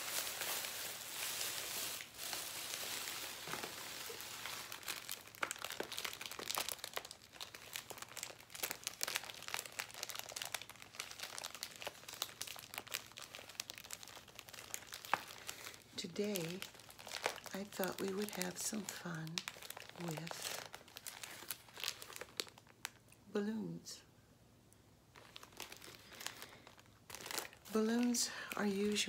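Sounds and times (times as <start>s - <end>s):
balloon packet crinkling: 0.0s - 23.2s, 25.1s - 29.0s.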